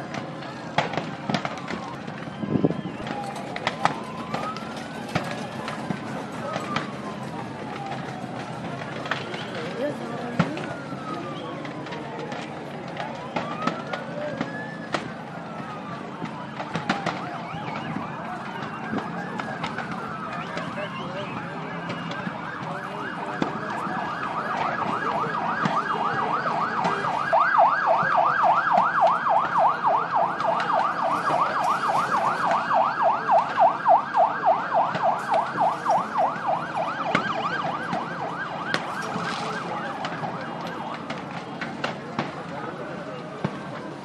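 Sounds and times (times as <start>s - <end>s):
emergency siren yelping: 0.0s - 44.0s.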